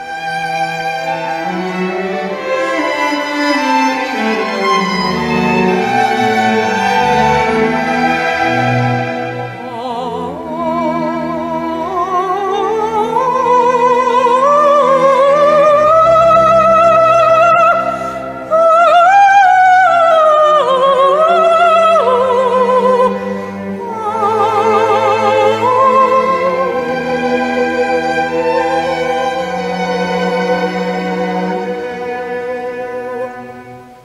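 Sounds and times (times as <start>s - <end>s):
sustained orchestral strings: 0.0s - 34.0s
soprano singing with vibrato: 1.1s - 34.0s.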